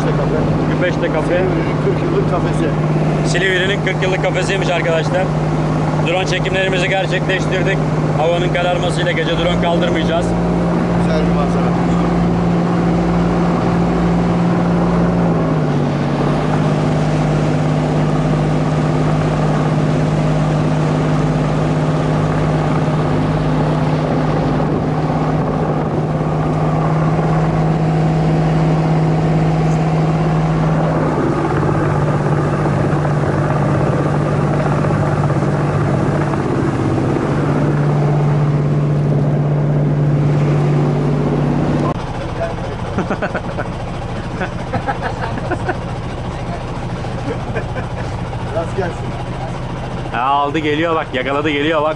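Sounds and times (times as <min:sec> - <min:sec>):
boat engine humming: 0:00.0 - 0:51.9
water wash: 0:00.0 - 0:51.9.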